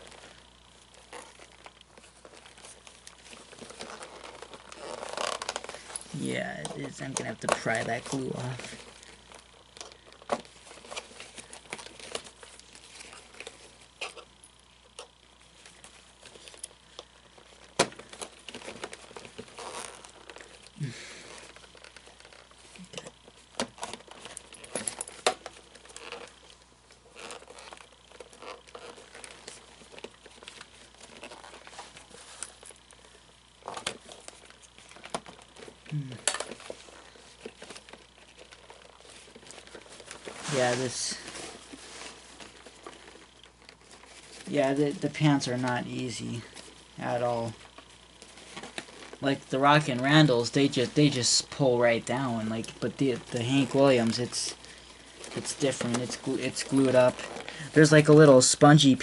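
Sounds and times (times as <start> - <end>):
fabric crinkling and tearing: 0.0 - 59.0.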